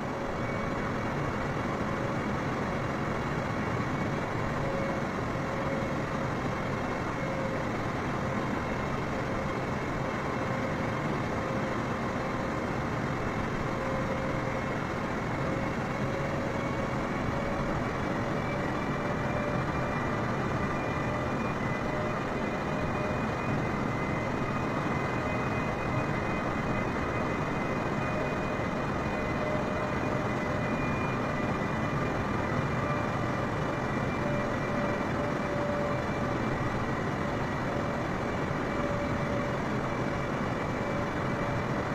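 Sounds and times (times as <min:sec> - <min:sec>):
jet engines droning: 0:00.0 - 0:41.9.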